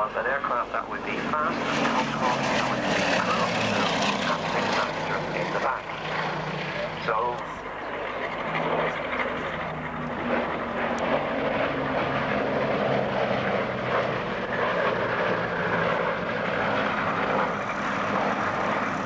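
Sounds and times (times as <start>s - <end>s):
propeller aircraft engines droning: 0.0s - 19.0s.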